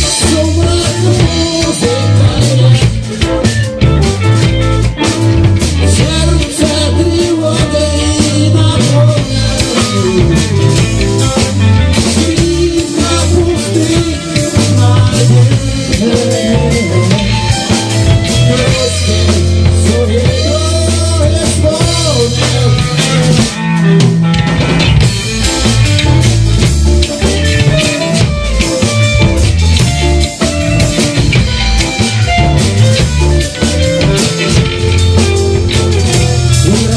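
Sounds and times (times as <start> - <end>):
rock band music: 0.0 - 36.9.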